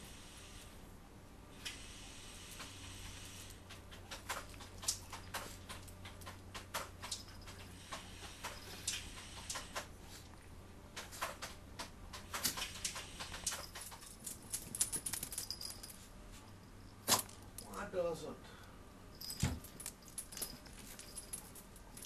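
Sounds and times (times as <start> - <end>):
dogs' paws clicking and scuffling: 2.5 - 17.8, 19.2 - 22.0.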